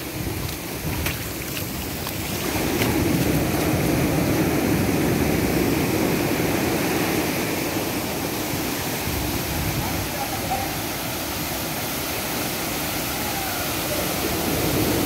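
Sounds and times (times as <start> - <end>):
surf washing over sand and rocks: 0.0 - 15.0.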